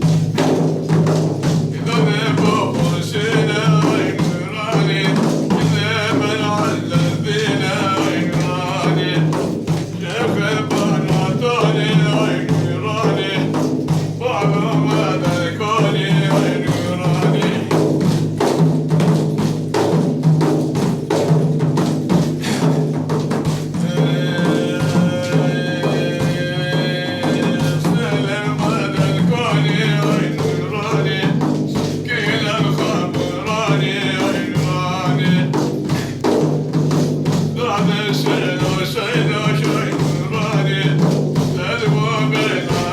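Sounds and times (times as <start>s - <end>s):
drums: 0.0s - 42.9s
man singing devotional song: 0.0s - 42.9s.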